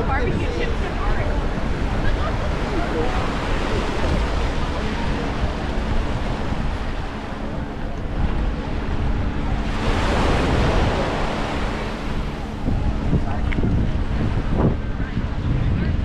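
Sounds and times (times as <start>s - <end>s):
surf washing onto a beach: 0.0s - 16.0s
wind noise on microphone: 0.0s - 16.0s.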